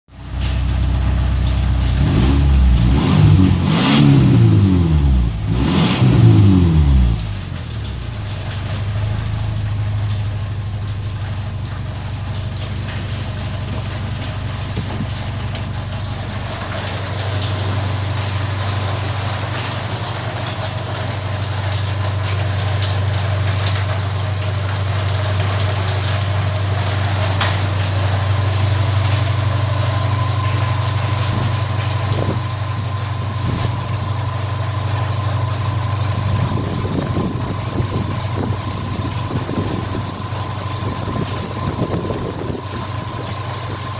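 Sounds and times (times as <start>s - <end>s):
car engine revving and idling: 0.2s - 43.9s.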